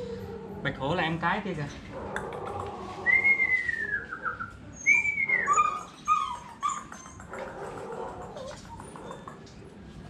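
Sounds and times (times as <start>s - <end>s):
puppy whining: 0.0s - 0.6s, 2.0s - 9.7s.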